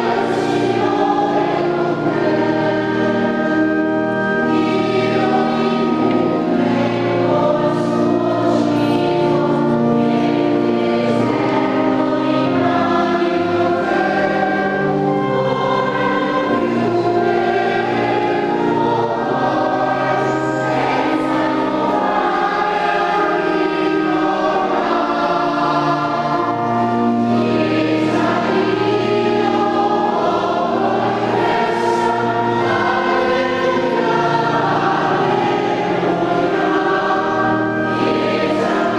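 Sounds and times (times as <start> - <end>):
church choir singing a hymn: 0.0 - 38.9.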